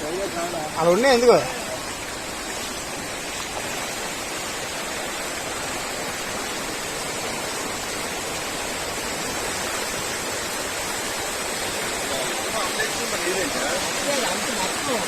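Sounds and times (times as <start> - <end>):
fast-flowing floodwater rushing: 0.0 - 15.0.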